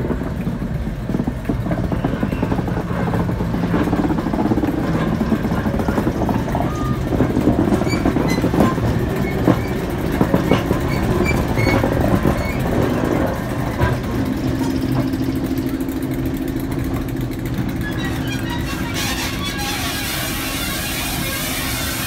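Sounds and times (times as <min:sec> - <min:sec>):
clanks and knocks: 0:00.0 - 0:22.0
diesel locomotive engine running: 0:00.0 - 0:22.0.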